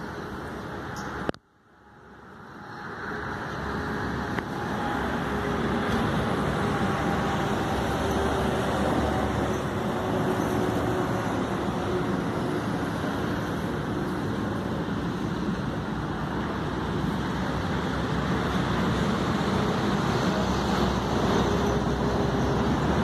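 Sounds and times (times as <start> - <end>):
distant highway traffic rumble: 0.0 - 23.0.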